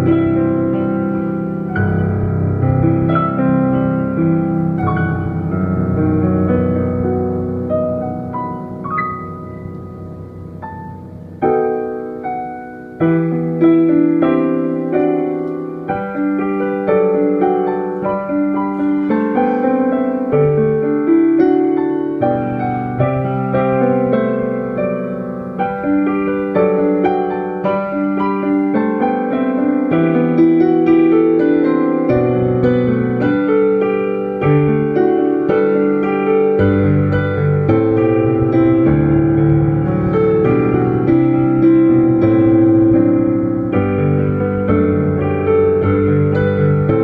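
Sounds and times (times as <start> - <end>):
digital piano playing hymn: 0.0 - 47.0.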